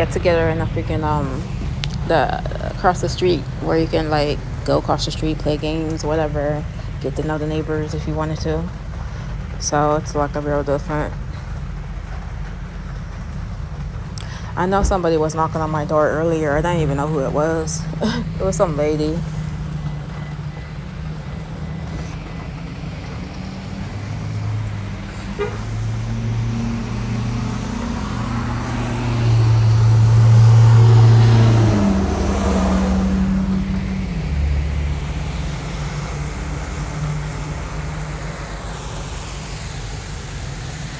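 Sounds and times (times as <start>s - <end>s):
vehicle engine passing: 0.0s - 40.9s.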